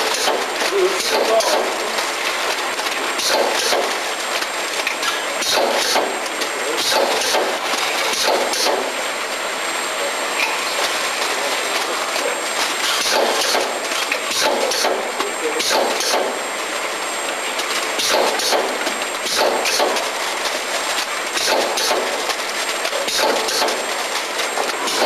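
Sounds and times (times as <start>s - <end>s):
machine mechanical clatter: 0.0s - 9.0s, 10.4s - 25.0s.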